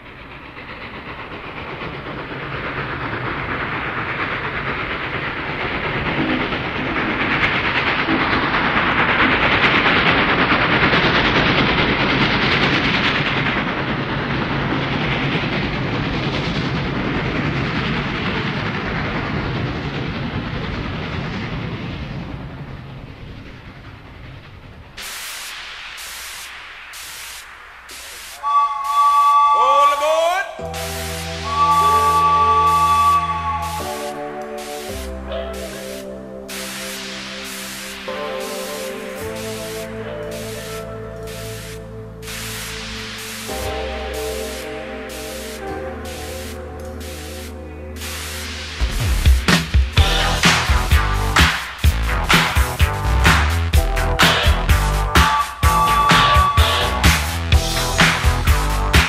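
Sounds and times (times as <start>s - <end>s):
train rail clatter: 0.0s - 59.0s.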